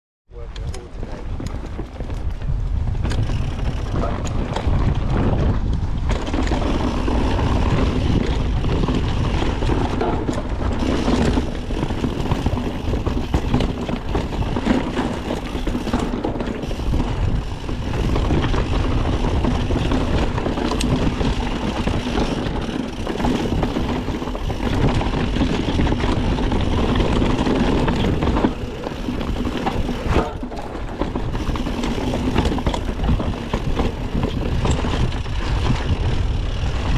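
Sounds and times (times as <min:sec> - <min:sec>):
bike rattling: 0:00.4 - 0:36.9
bike tyres rumbling on trail: 0:00.6 - 0:36.9.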